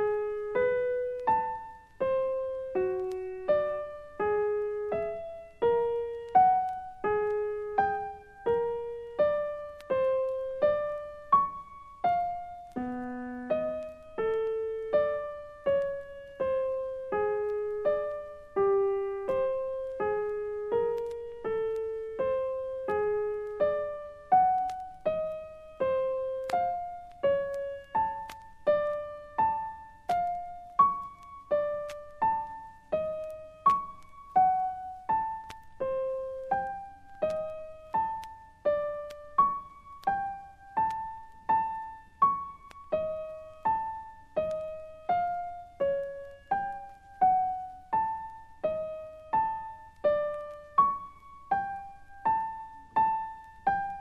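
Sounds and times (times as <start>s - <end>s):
slow solo piano notes: 0.0s - 54.0s.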